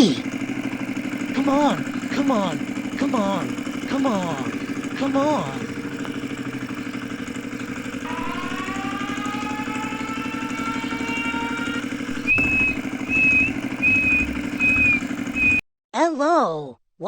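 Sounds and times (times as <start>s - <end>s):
tractor engine droning: 0.0s - 15.6s
rising whine: 0.3s - 15.6s.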